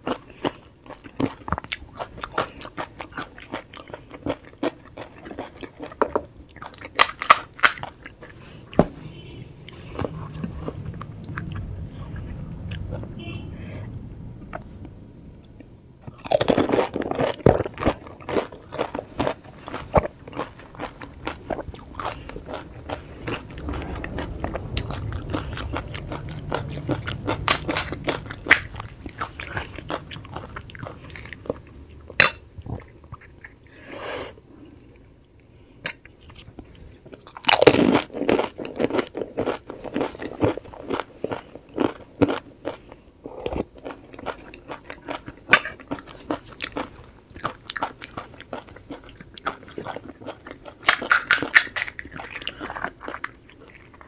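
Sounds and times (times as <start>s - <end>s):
crunchy food being chewed: 0.0s - 13.1s, 14.4s - 54.0s.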